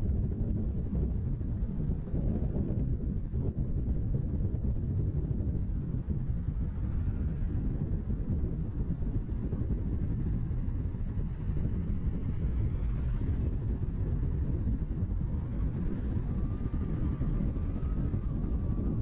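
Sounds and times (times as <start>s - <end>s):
road and wind noise: 0.0s - 19.0s.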